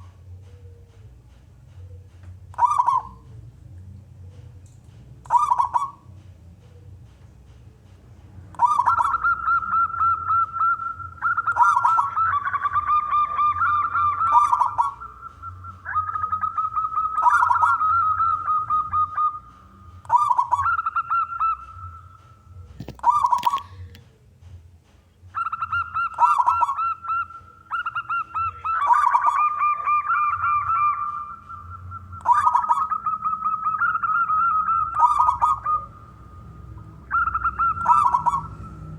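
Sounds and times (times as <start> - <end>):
dove cooing: 0.0 - 3.4, 5.2 - 24.0, 25.3 - 38.9.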